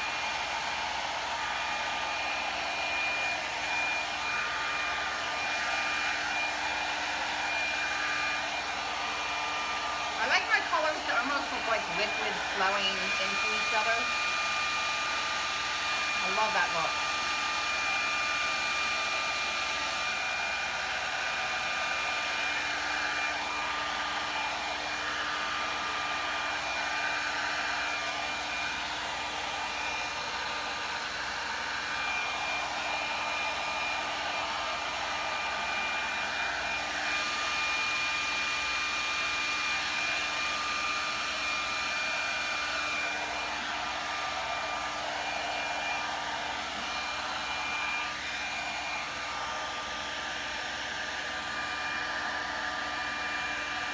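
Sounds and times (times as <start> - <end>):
blow dryer running: 0.0 - 53.9.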